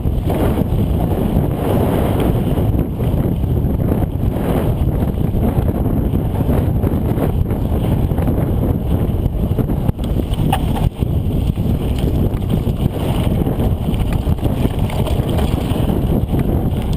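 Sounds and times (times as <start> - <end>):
low rumble of movement: 0.0 - 16.9
wind buffeting microphone: 0.0 - 16.9.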